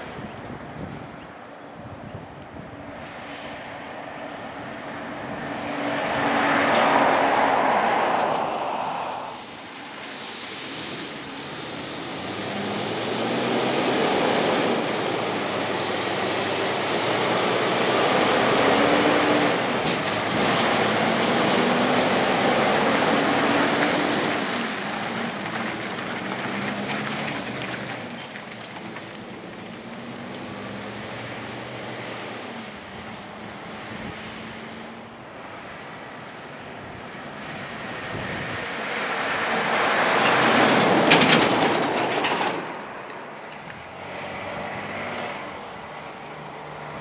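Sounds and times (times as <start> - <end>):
diesel truck accelerating: 2.5 - 47.0.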